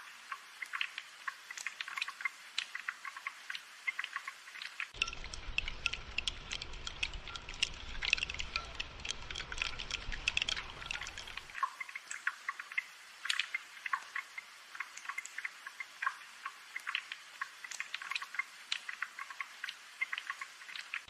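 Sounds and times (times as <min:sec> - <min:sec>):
rain dripping: 0:00.0 - 0:21.0.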